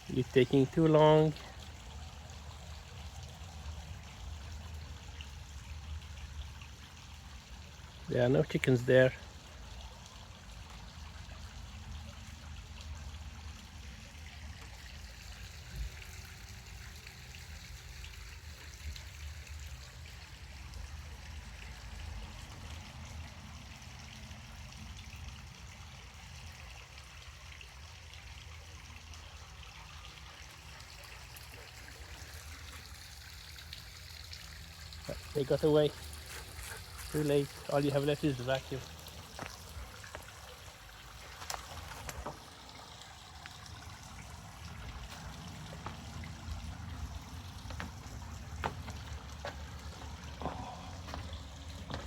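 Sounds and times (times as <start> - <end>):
trickling running water: 0.0 - 52.0.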